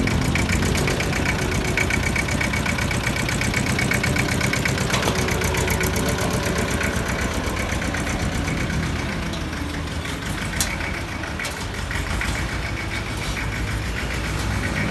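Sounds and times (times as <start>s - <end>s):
diesel tractor engine idling: 0.0s - 14.9s.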